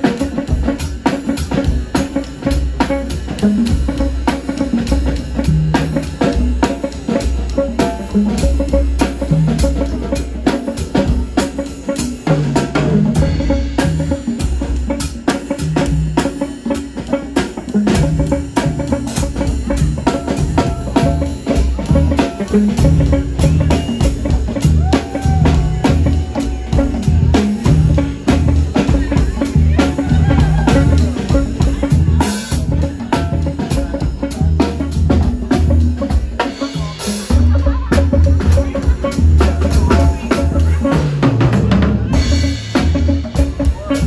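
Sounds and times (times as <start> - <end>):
bass guitar: 0.0 - 44.0
drum kit beat: 0.0 - 44.0
electric guitar: 0.0 - 44.0.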